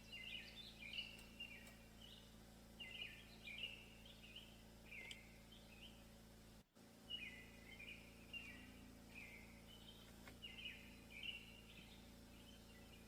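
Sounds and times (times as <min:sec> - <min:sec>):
bird chirping: 0:00.0 - 0:06.2, 0:07.0 - 0:13.0
faint low hum: 0:00.0 - 0:13.0.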